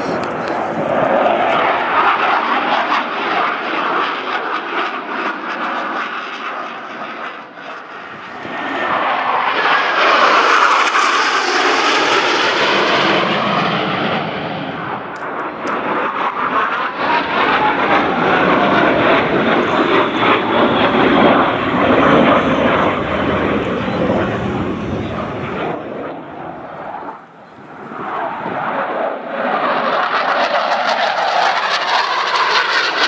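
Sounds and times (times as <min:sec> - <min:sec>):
jet engines flying past: 0:00.0 - 0:33.0.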